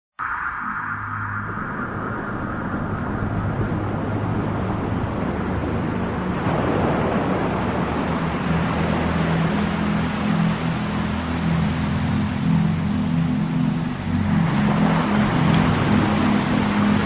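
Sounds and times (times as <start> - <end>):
background music: 0.2 - 17.0.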